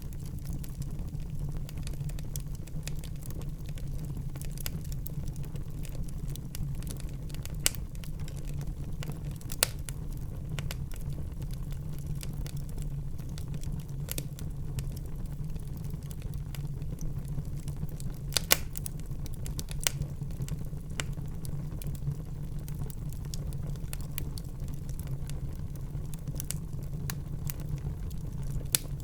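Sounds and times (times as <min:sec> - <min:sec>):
fire crackling and popping: 0:00.0 - 0:29.0
flames rumbling: 0:00.0 - 0:29.0.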